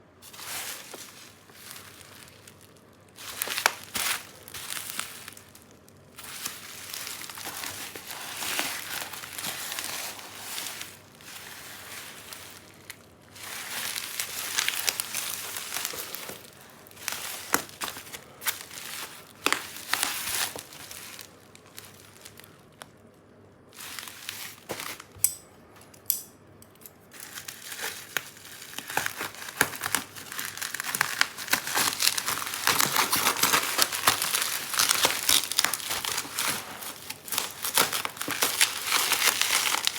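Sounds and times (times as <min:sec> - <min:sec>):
plastic and paper wrapping crinkling: 0:00.0 - 0:25.2, 0:27.1 - 0:39.9.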